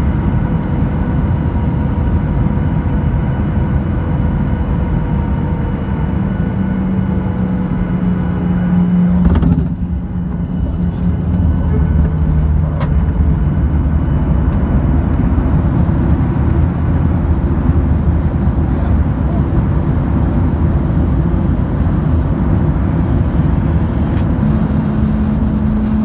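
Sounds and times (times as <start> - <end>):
aircraft cabin rumble: 0.0 - 26.0
steady low hum: 0.0 - 26.0.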